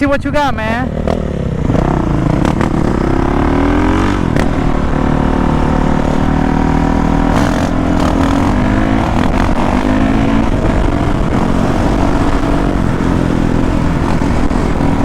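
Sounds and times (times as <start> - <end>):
motorcycle engine revving: 0.4 - 15.0.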